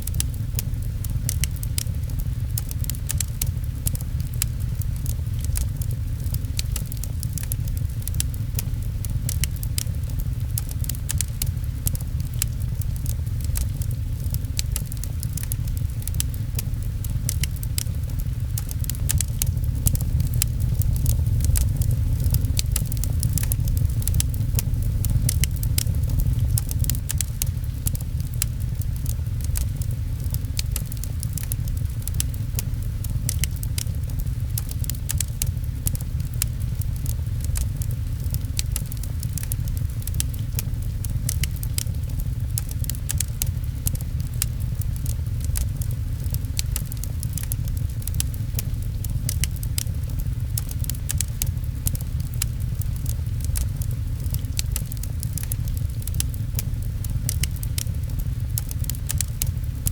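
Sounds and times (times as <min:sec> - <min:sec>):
fireplace fire crackling: 0:00.0 - 0:59.9
low rumble: 0:00.0 - 0:59.9
rain: 0:00.0 - 0:59.9.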